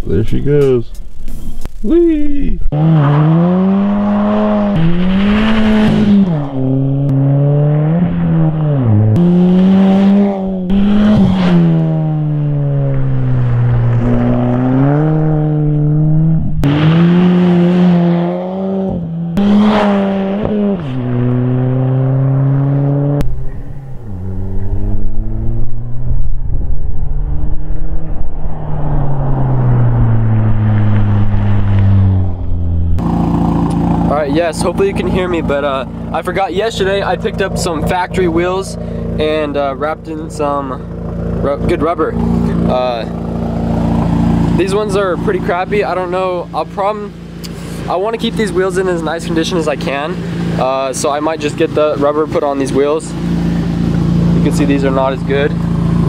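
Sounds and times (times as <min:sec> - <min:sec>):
car engine accelerating hard: 0:02.7 - 0:56.0.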